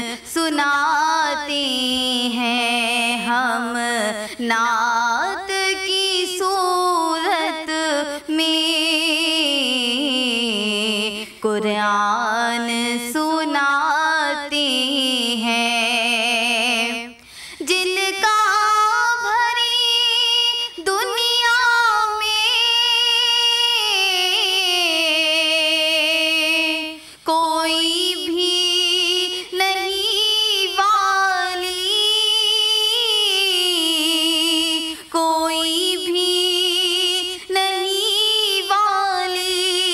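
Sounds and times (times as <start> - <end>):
girl singing unaccompanied: 0.0 - 39.9.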